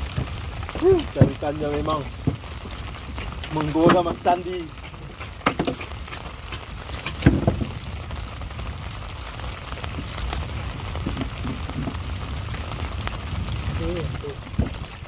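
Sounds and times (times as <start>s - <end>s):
drizzle falling on sea: 0.0s - 15.0s.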